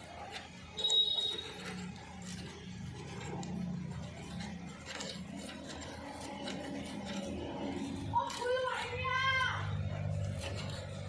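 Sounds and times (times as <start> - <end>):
wrench clicking and scraping: 0.0 - 11.0.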